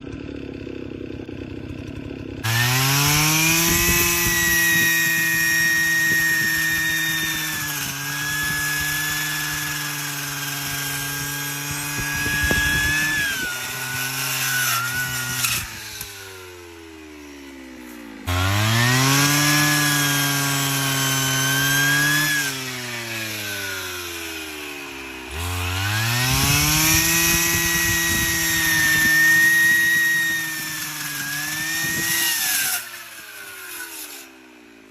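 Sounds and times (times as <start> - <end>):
brush cutter engine revving: 0.0 - 34.9.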